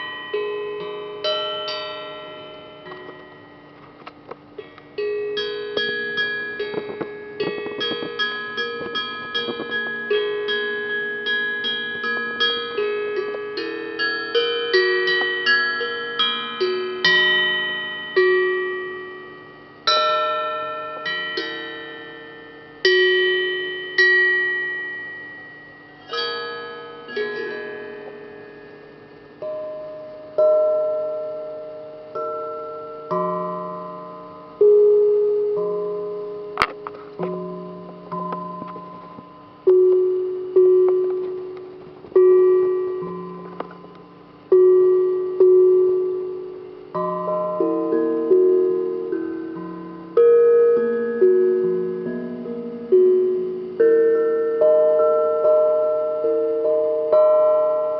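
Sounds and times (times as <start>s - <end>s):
bell-like struck metal notes: 0.0s - 57.9s.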